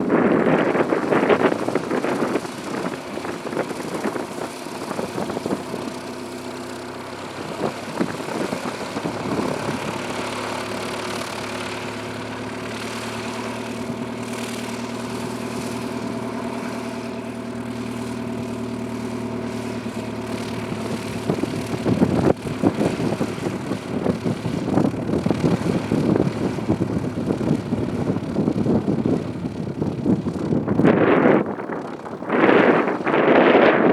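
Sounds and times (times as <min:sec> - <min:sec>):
propeller plane engine running: 0:00.0 - 0:33.9
wind buffeting microphone: 0:00.0 - 0:33.9.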